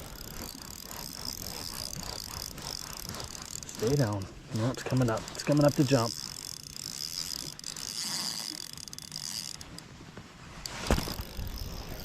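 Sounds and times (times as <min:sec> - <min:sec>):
fishing reel ratcheting whir: 0:00.0 - 0:04.2, 0:04.9 - 0:09.9, 0:10.6 - 0:12.0.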